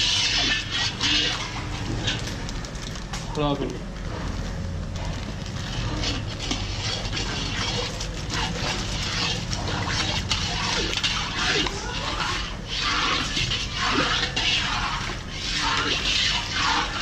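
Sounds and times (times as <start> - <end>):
liquid splashing and bubbling: 0.0 - 3.0, 5.3 - 17.0.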